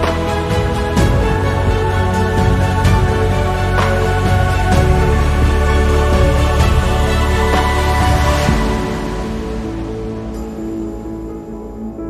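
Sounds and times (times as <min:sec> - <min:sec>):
sustained chords over deep bass: 0:00.0 - 0:11.7.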